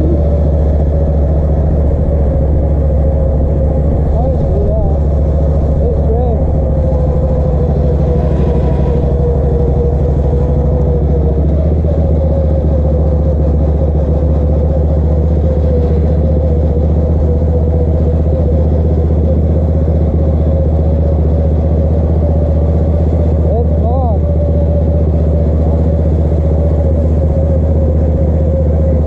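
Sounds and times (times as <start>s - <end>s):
lawn mower engine running: 0.0s - 29.0s
steady whine: 0.0s - 29.0s.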